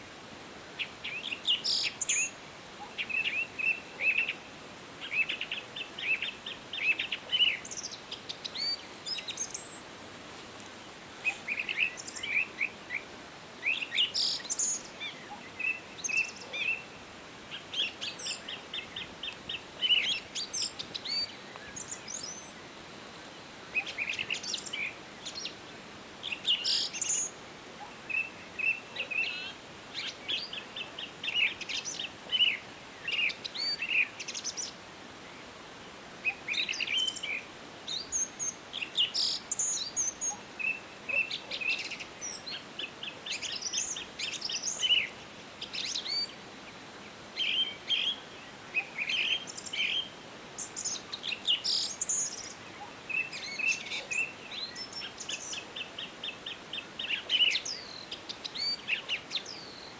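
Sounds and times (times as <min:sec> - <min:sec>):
steady soft hiss: 0:00.0 - 0:59.9
songbirds chirping and trilling: 0:00.7 - 0:59.9.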